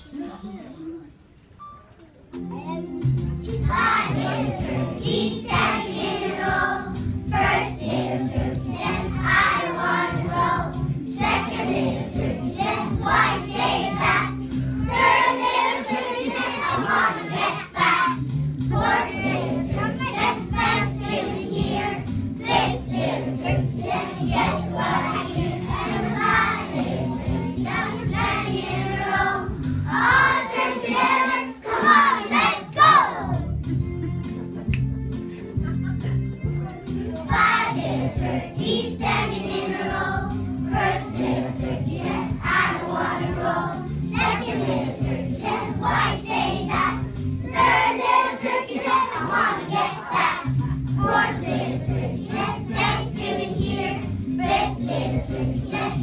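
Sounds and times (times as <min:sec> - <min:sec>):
musical accompaniment: 0:01.5 - 0:56.0
children singing in unison: 0:03.7 - 0:33.4, 0:37.3 - 0:56.0.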